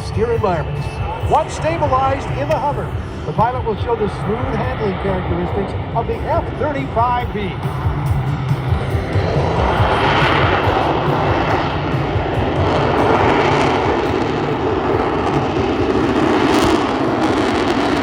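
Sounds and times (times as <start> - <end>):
jet engine roaring: 0.0 - 18.0.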